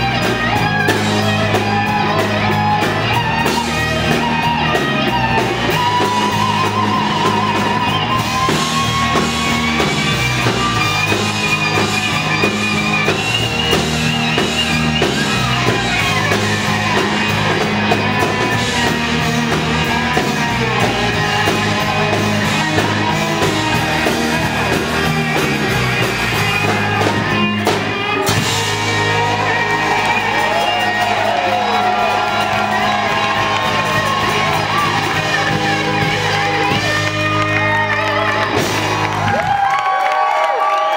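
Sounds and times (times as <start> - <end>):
rock band playing: 0.0 - 40.9
wavering lead guitar: 0.0 - 40.9.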